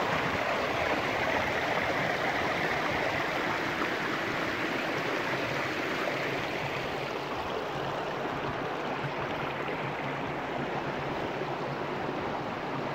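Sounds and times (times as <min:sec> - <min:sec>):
creek water flowing: 0:00.0 - 0:12.9.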